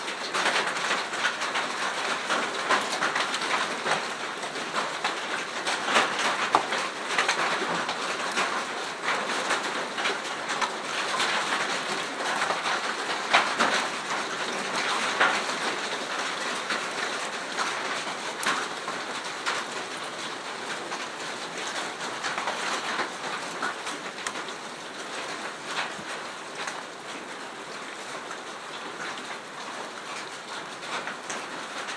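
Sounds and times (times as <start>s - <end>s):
hail and rain falling hard: 0.0s - 31.9s
hailstones tapping and clattering: 0.0s - 31.9s.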